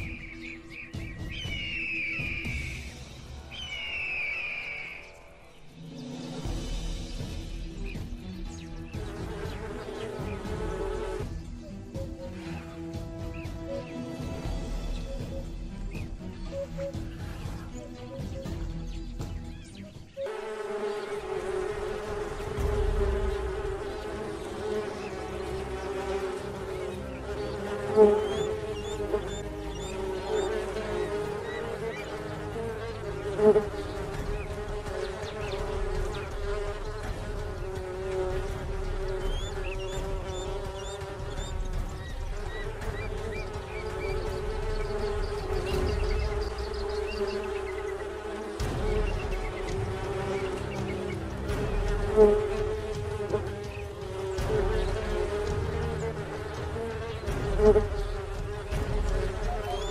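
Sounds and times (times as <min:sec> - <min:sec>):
hornets buzzing: 0:00.0 - 0:59.9.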